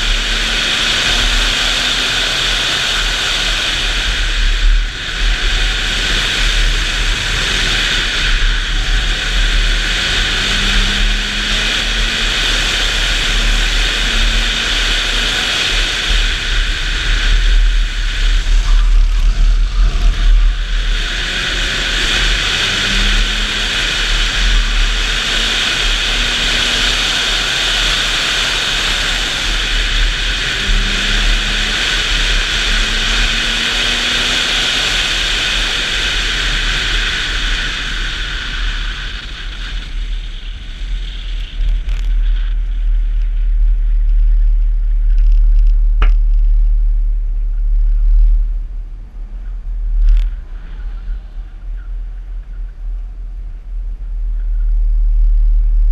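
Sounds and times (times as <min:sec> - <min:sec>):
car engine revving: 0:00.0 - 0:51.6
wind and road noise hiss: 0:00.0 - 0:55.9
wind rumble on microphone: 0:00.0 - 0:55.9.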